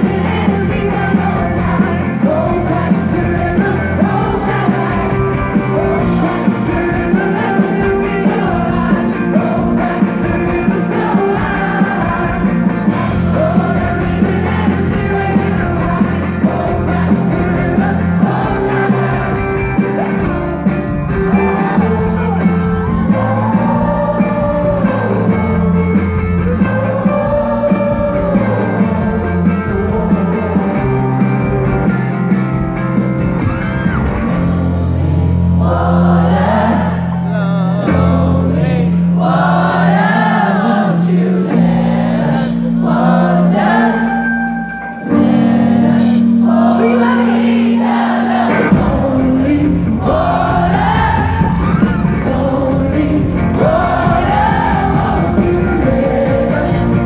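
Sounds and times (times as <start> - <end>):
person singing: 0.0 - 32.3, 34.7 - 57.0
electric guitar: 0.0 - 35.6, 41.3 - 57.0
drums: 0.0 - 57.0.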